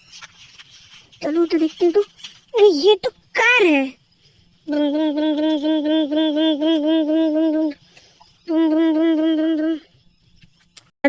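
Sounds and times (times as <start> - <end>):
person humming engine sound: 1.2 - 10.8.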